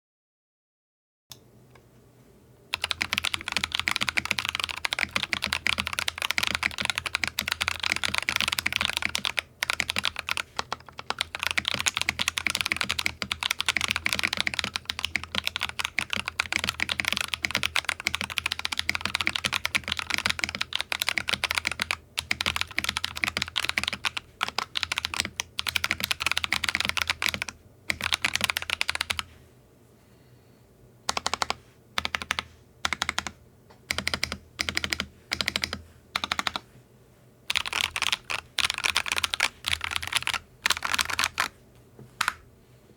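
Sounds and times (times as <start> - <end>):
fast mechanical keyboard typing: 2.7 - 29.3, 31.1 - 36.6, 37.5 - 41.5.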